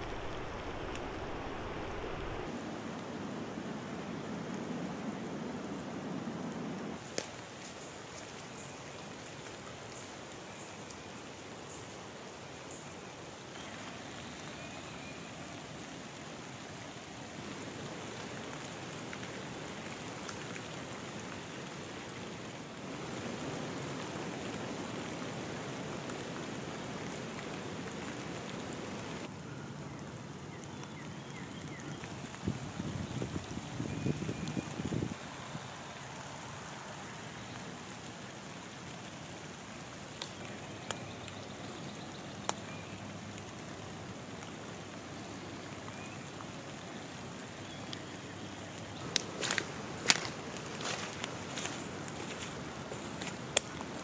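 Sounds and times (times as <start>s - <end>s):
rain falling on water and leaves: 0.0s - 54.0s.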